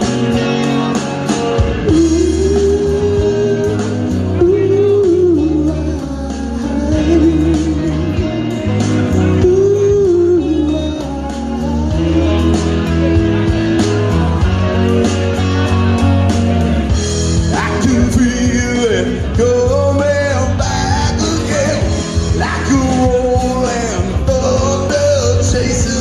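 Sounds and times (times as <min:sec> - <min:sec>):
man singing amplified: 0:00.0 - 0:26.0
rock guitar and bass: 0:00.0 - 0:26.0.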